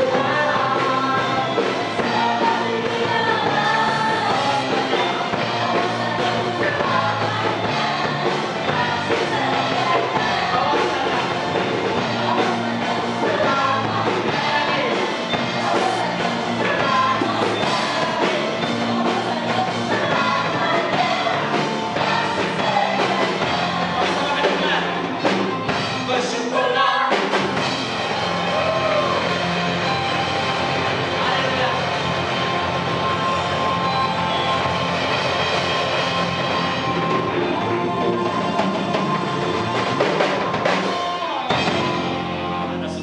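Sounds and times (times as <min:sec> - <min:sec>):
congregation singing: 0:00.0 - 0:42.2
worship band playing: 0:00.0 - 0:43.0.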